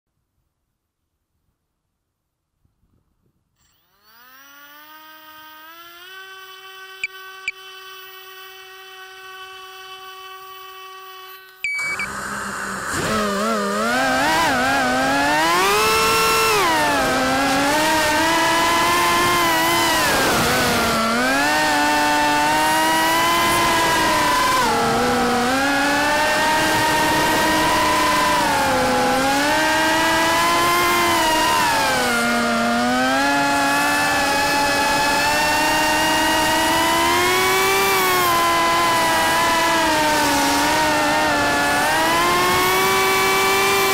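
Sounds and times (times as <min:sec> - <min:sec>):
drone motors whining: 0:03.6 - 0:43.9.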